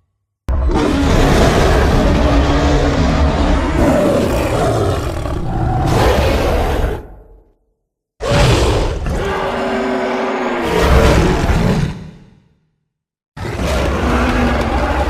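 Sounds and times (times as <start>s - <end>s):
monster roar: 0.5s - 7.3s, 8.2s - 12.4s, 13.4s - 15.0s.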